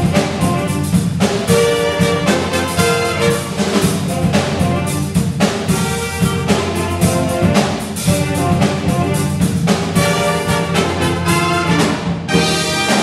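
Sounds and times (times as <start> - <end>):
jazz big band playing: 0.0 - 13.0.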